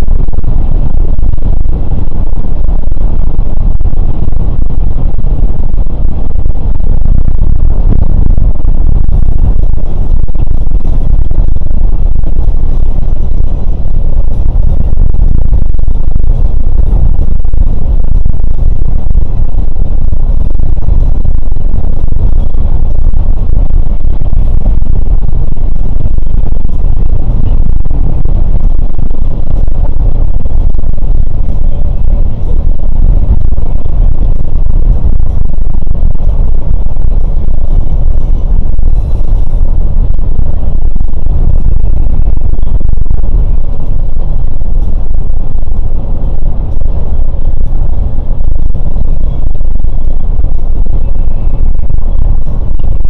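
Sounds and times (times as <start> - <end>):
coach engine and road rumble: 0.0 - 52.8.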